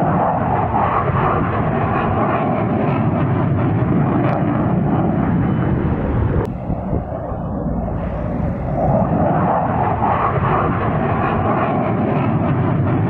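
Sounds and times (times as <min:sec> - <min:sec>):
jet engine flying past: 0:00.0 - 0:13.0.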